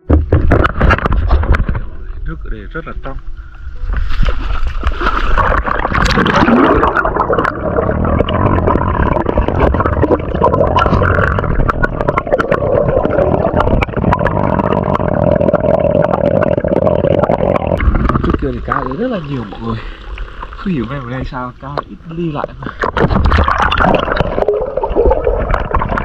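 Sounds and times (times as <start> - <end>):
muffled underwater water noise: 0.0 - 26.0
bubbling: 3.9 - 26.0.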